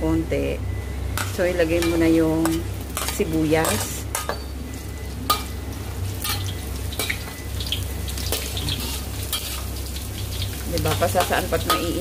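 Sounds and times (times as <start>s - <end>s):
steady low hum: 0.0s - 12.0s
spices frying in oil: 1.2s - 12.0s.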